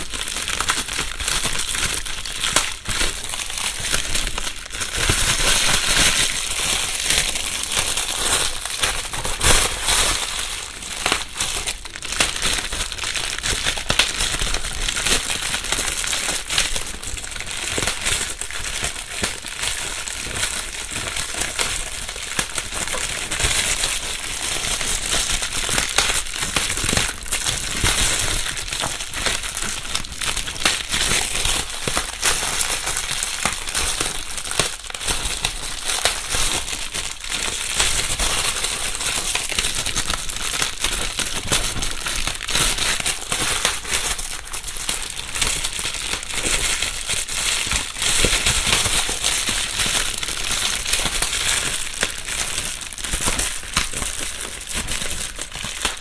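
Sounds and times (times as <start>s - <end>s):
bubble wrap crinkling and popping: 0.0s - 56.0s.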